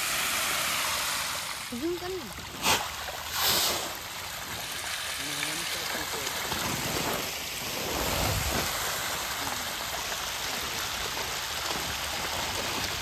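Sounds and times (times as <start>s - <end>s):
rushing water hiss: 0.0s - 13.0s.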